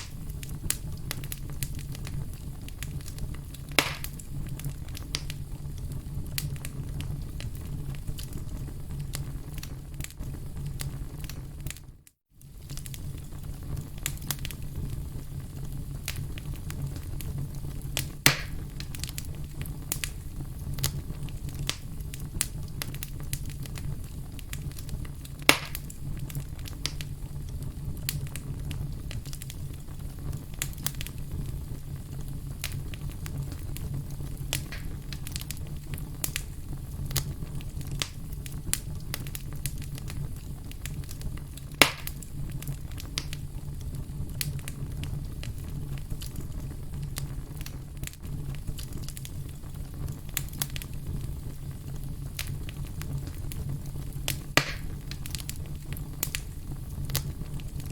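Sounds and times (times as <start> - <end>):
sharp fire pops: 0.0 - 57.9
wood fire crackling: 0.0 - 57.9.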